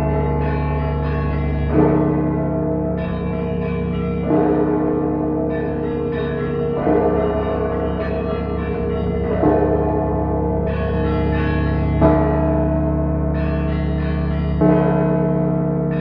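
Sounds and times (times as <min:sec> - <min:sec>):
church bells ringing: 0:00.0 - 0:16.0
low bell hum: 0:00.0 - 0:16.0.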